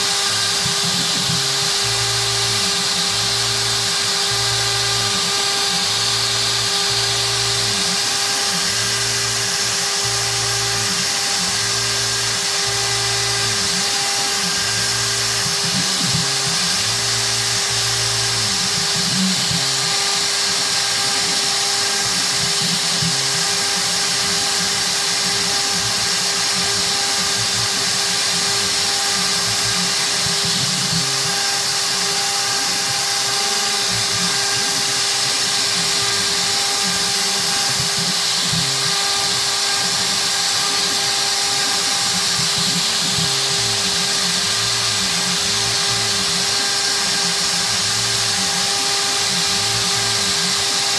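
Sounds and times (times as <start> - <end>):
router spindle cutting whine: 0.0 - 50.9.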